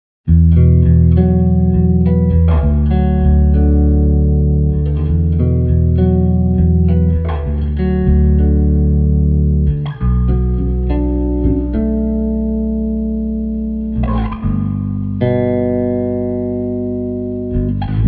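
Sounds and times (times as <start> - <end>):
electric bass playing: 0.3 - 18.0.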